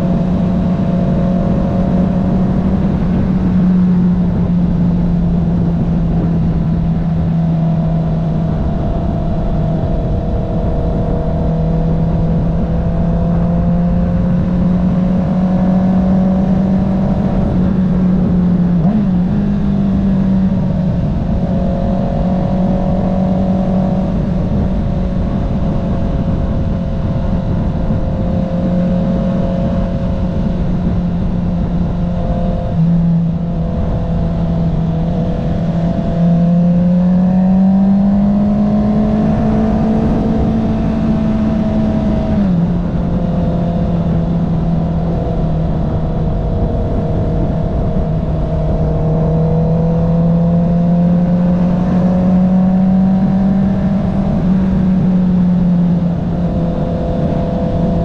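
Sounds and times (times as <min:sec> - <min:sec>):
motorcycle engine droning: 0:00.0 - 0:58.0
wind rush: 0:00.0 - 0:58.0.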